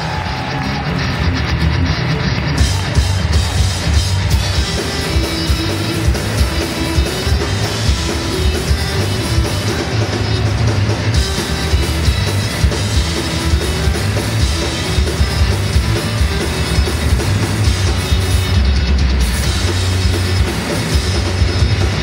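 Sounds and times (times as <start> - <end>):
heavy drums: 0.0 - 22.0.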